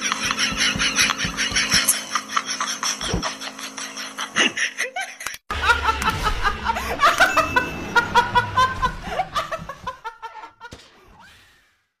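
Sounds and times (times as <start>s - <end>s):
woman laughing hard: 0.0s - 10.7s.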